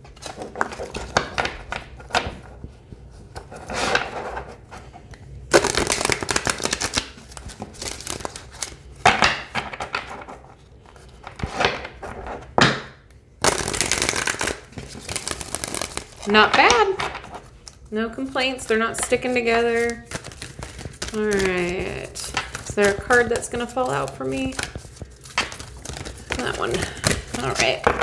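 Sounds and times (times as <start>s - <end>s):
cards being shuffled by hand: 0.0s - 12.5s, 13.4s - 28.0s.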